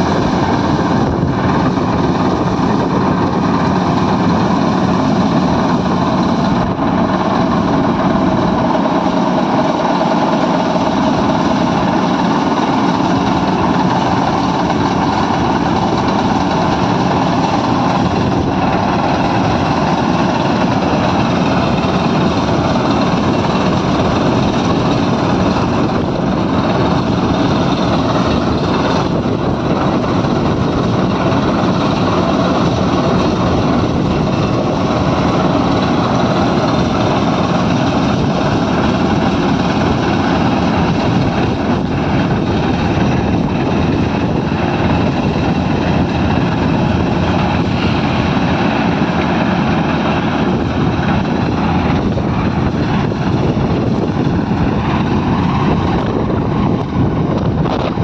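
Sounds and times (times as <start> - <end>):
combine harvester running: 0.0 - 58.0.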